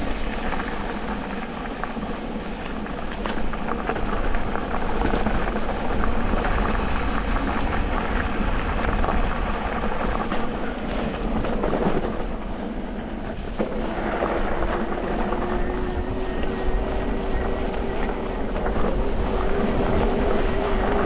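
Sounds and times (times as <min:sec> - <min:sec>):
bike rattling over bumps: 0:00.0 - 0:21.0
bike tyres on dirt trail: 0:00.0 - 0:21.0
electric motor whine: 0:00.0 - 0:21.0.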